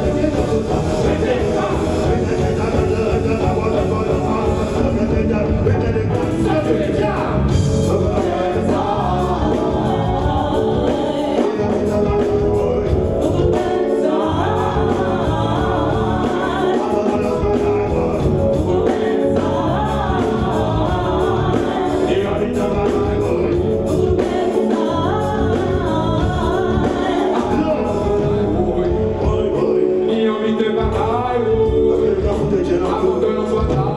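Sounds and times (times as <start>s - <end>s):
live reggae band playing: 0.0s - 33.9s
vocals into microphones: 0.0s - 33.9s.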